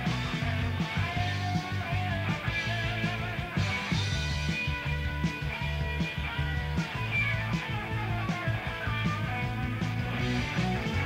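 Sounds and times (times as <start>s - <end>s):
bass guitar: 0.0s - 11.0s
electric guitar: 0.0s - 11.0s
steady drum beat: 0.0s - 11.0s.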